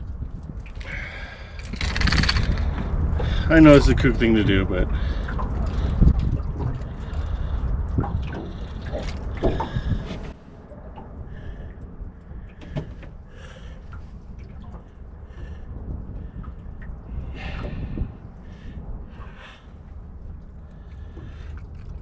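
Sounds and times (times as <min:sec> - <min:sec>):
water lapping against boat hull: 0:00.0 - 0:22.0
wind on microphone: 0:00.0 - 0:22.0.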